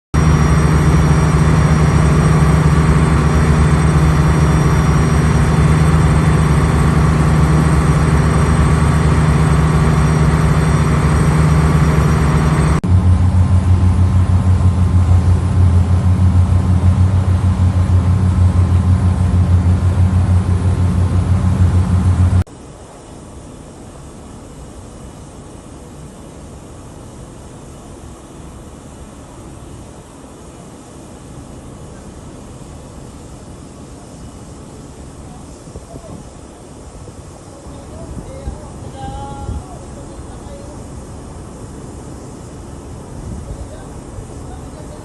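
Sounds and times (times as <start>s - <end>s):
ship machinery drone: 0.2s - 45.0s.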